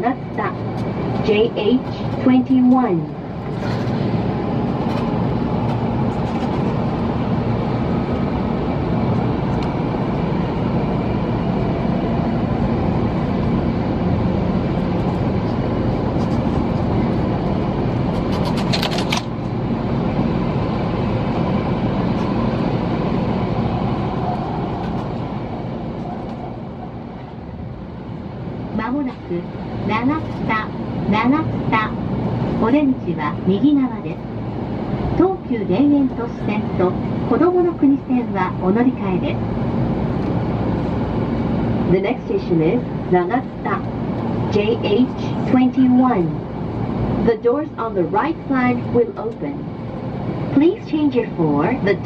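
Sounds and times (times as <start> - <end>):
train rail and motor noise: 0.0 - 52.0.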